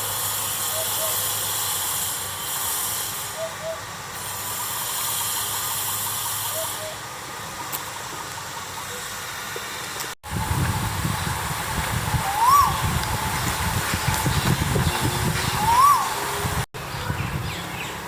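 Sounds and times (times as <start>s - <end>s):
outdoor hiss: 0.0s - 18.0s.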